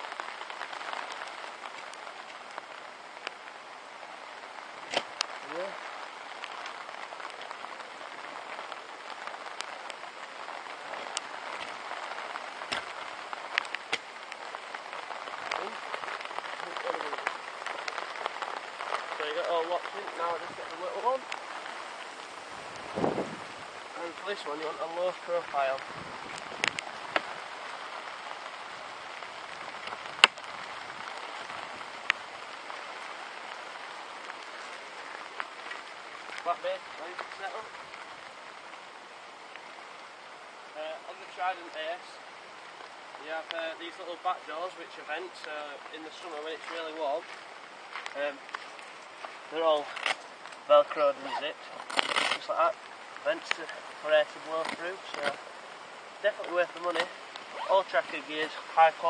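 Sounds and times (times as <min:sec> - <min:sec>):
rain on fabric canopy: 0:00.0 - 0:59.0.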